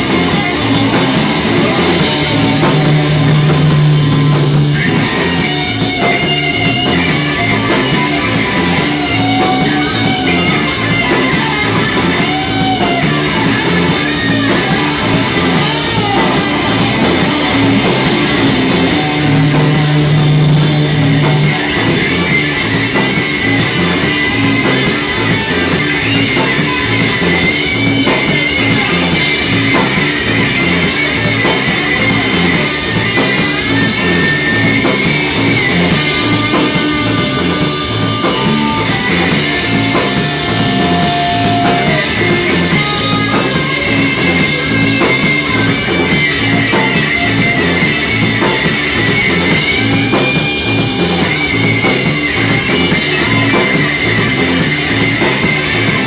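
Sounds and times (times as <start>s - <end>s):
bass guitar: 0.0s - 56.0s
drums: 0.0s - 56.0s
electric guitar bending notes: 0.0s - 56.0s.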